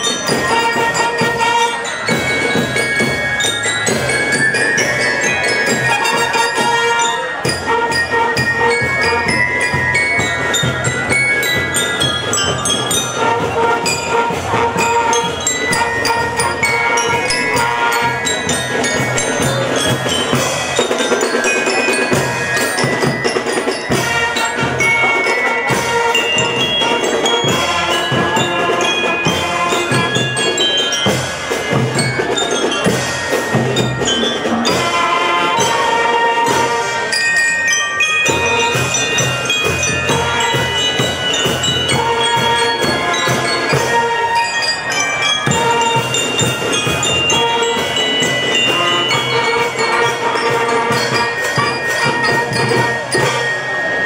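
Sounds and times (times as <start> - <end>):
trumpets and brass: 0.0 - 33.8, 34.4 - 37.2, 38.2 - 53.9
bell lyres melody: 0.0 - 54.0.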